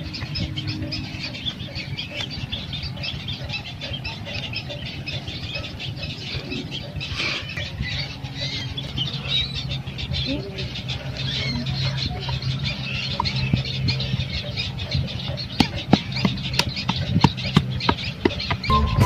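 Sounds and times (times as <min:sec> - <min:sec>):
small birds chirping and twittering: 0:00.0 - 0:19.0.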